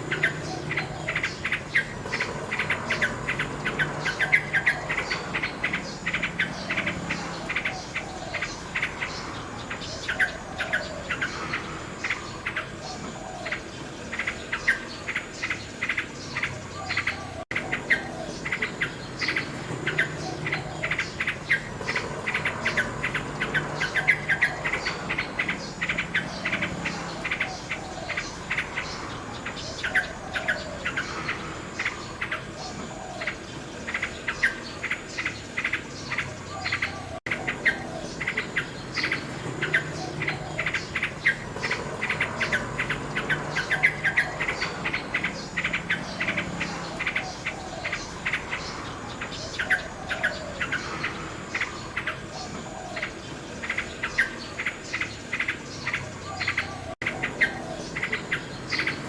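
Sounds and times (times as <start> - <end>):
high-pitched background drone: 0.0 - 59.0
nightingale singing: 0.0 - 59.0.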